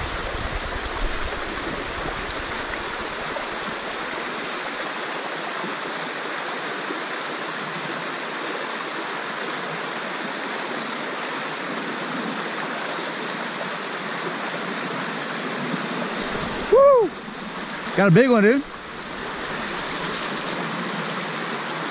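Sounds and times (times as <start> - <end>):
river water rushing over rocks: 0.0 - 21.9.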